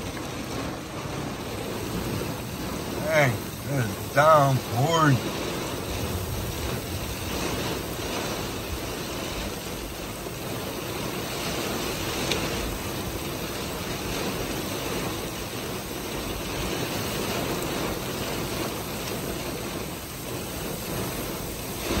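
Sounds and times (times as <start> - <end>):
torrential rain pouring: 0.0 - 22.0.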